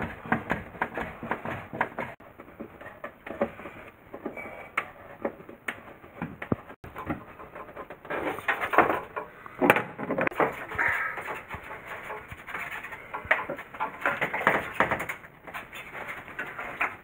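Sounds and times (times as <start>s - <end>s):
plastic parts knocking and clicking: 0.0s - 17.0s.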